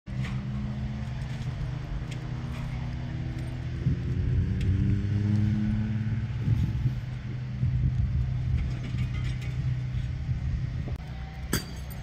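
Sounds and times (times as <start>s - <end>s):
engine humming: 0.1s - 12.0s.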